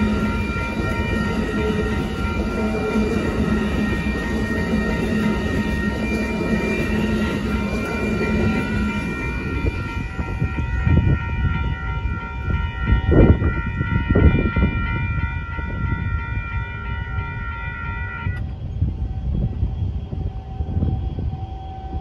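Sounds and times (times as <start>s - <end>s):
crossing warning bell ringing: 0.0s - 22.0s.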